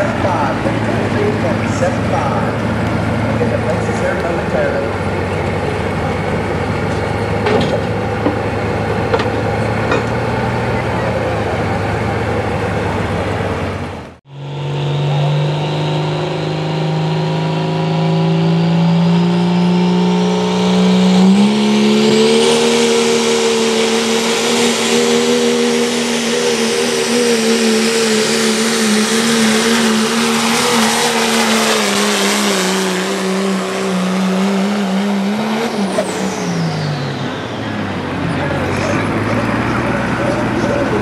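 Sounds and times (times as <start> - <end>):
diesel truck engine at full throttle: 0.0 - 41.0.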